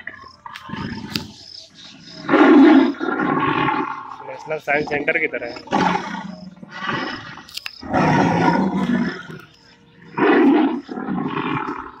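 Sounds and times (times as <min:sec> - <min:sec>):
recorded dinosaur roars: 0:02.2 - 0:12.0.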